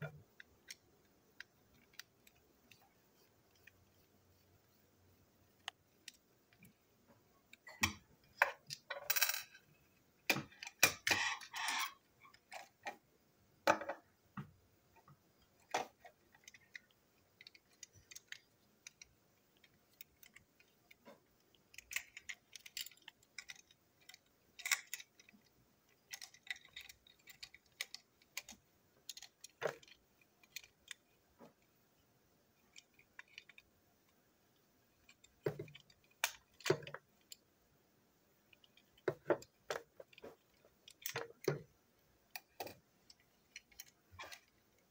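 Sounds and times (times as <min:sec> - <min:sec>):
plastic parts clicking and rattling: 0:00.0 - 0:04.1, 0:07.4 - 0:13.0, 0:15.0 - 0:31.8, 0:32.5 - 0:37.4, 0:38.4 - 0:44.9.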